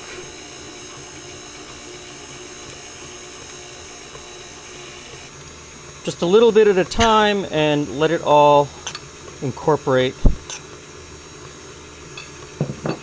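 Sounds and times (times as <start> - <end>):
stand mixer running: 0.0 - 13.0.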